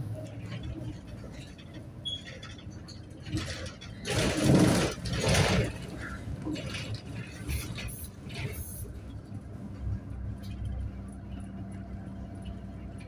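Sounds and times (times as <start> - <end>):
bus engine and road hum: 0.0 - 13.0.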